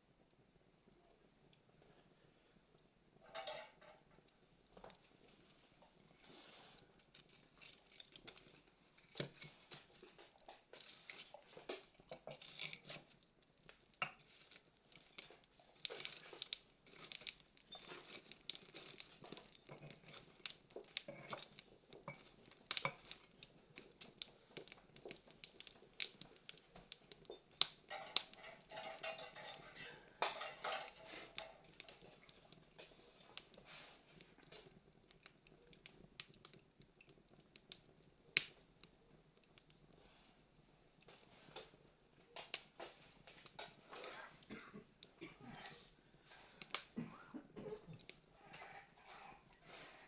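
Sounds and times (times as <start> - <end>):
campfire crackling: 4.3 - 50.0.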